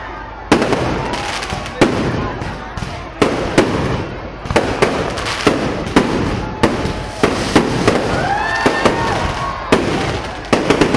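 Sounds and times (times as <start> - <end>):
continuous noisy background: 0.0 - 10.9
fireworks bursting with sharp bangs: 0.3 - 10.9.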